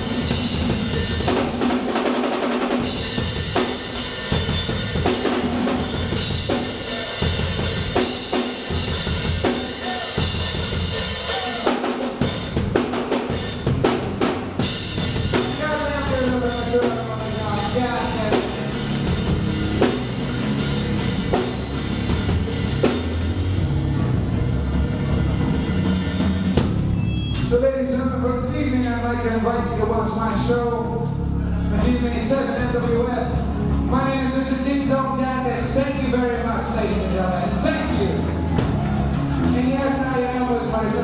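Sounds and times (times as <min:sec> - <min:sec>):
drum kit playing: 0:00.0 - 0:41.0.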